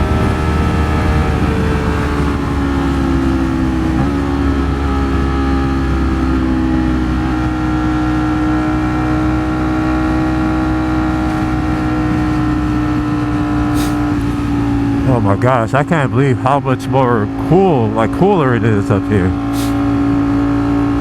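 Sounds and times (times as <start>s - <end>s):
wind rumble: 0.0s - 18.3s
motorcycle engine cruising: 0.0s - 21.0s.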